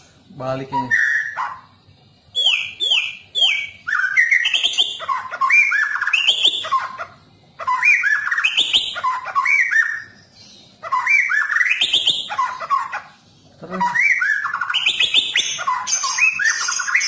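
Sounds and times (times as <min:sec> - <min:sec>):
bird singing whistled notes: 0:00.5 - 0:01.7, 0:02.3 - 0:17.0.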